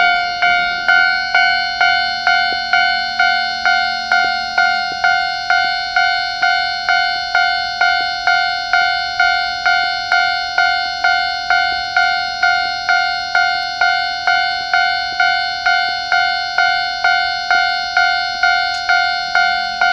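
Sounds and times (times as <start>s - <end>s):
level crossing alarm bell: 0.0s - 19.9s.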